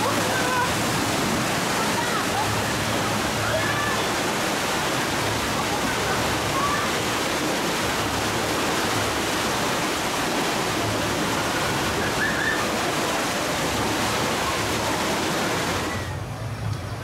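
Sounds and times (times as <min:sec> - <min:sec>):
falling water rushing: 0:00.0 - 0:17.0.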